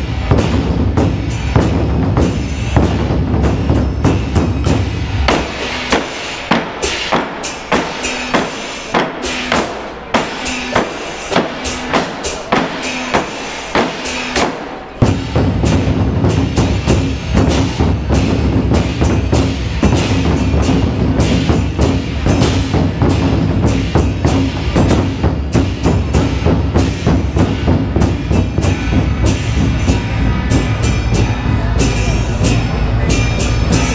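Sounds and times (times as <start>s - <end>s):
large drums played with sticks: 0.0s - 33.9s.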